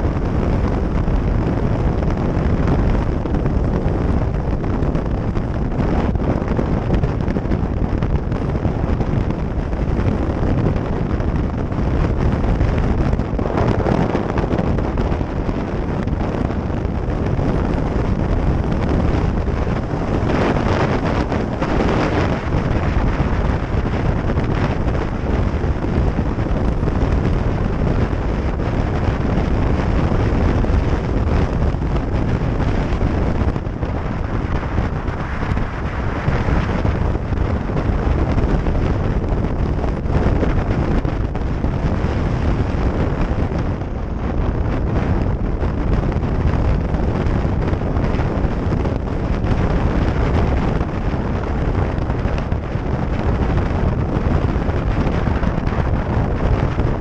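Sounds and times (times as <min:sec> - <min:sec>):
motorcycle engine rumble: 0:00.0 - 0:57.0
wind rush over microphone: 0:00.0 - 0:57.0.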